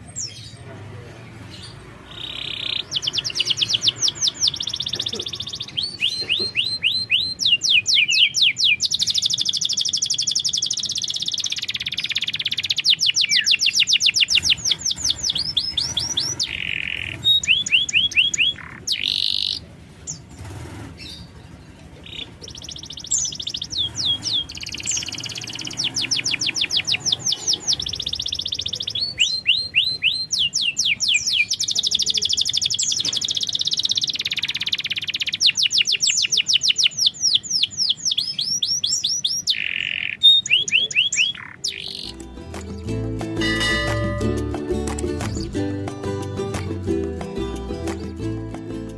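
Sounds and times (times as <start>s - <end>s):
canary singing trills: 0.0s - 44.6s.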